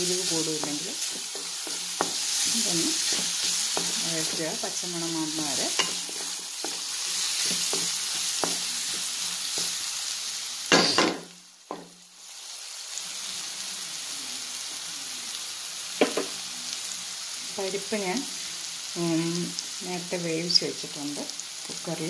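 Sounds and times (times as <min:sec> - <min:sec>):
masala sizzling in hot oil: 0:00.0 - 0:22.0.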